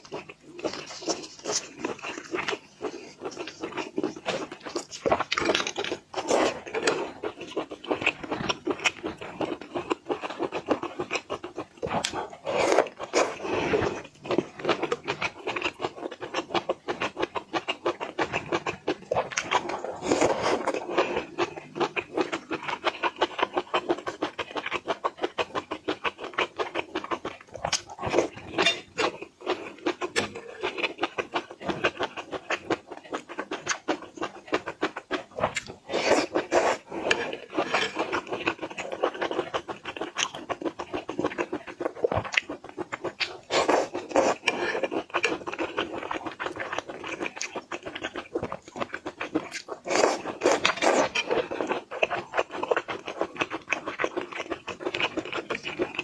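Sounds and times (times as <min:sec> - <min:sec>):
wet chewing and lip smacking: 0:00.0 - 0:56.0.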